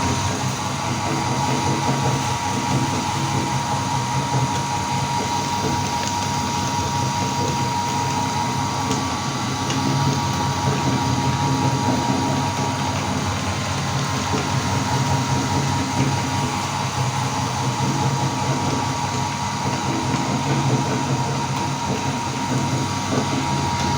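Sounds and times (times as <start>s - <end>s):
electric meat grinder running: 0.0s - 23.9s.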